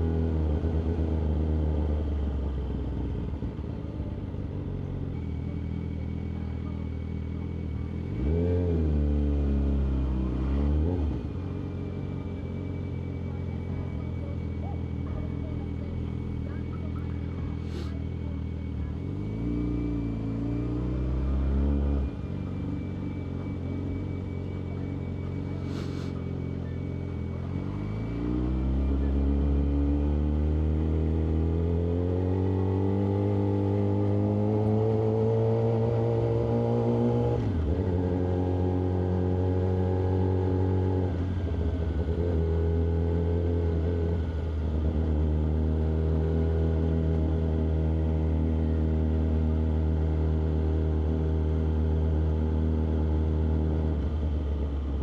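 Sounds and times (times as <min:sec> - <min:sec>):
motorcycle engine revving: 0:06.1 - 0:55.0.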